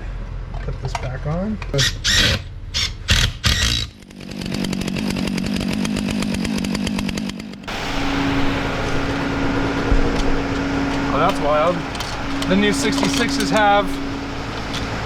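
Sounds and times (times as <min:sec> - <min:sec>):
power tool rattling buzz: 0:01.9 - 0:15.0.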